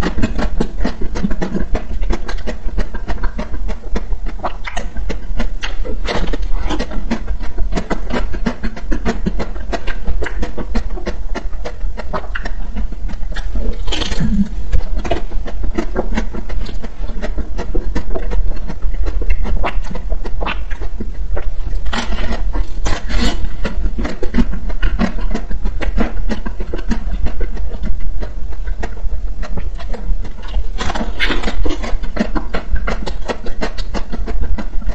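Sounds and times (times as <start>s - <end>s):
biting through frozen coating: 0.0s - 34.9s
crunchy chewing: 0.0s - 34.9s
steady low hum: 0.0s - 34.9s.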